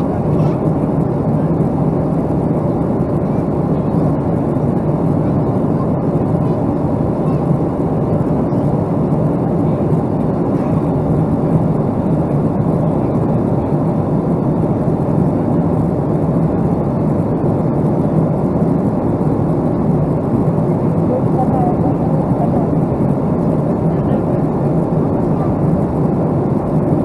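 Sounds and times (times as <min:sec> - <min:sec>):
jet engine and airflow rush: 0:00.0 - 0:27.0.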